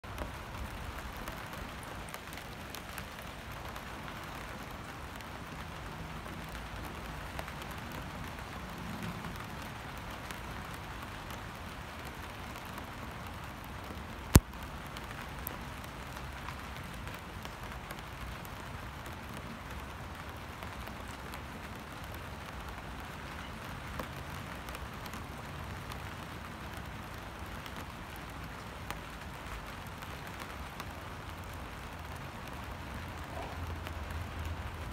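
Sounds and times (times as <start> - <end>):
rain falling onto water: 0.0 - 34.9.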